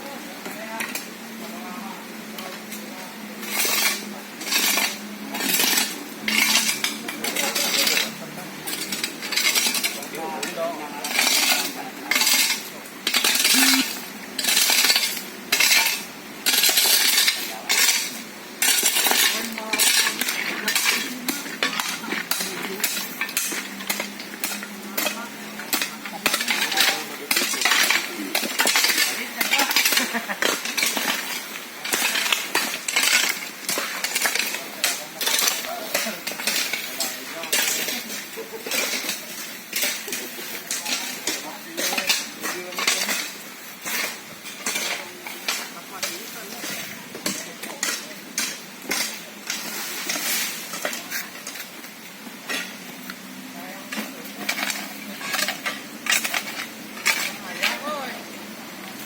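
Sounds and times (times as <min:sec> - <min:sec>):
metal tools scraping on gravel: 0:00.4 - 0:59.0.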